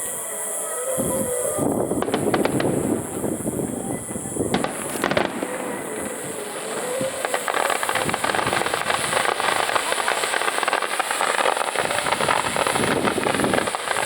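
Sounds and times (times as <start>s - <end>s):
fireworks crackling and popping: 1.0s - 14.0s.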